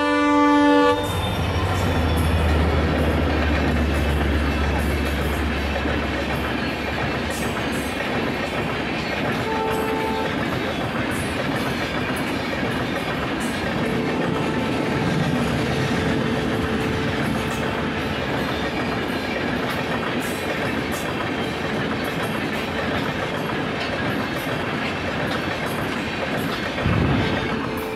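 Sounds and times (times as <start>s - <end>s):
train coaches rolling past: 0.0s - 27.9s.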